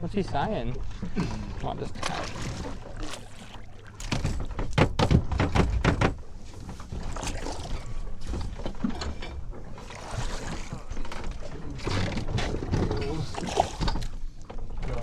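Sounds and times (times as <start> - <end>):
wind: 0.0 - 15.0
knocks and thumps on boat: 0.2 - 15.0
water noise: 0.3 - 15.0.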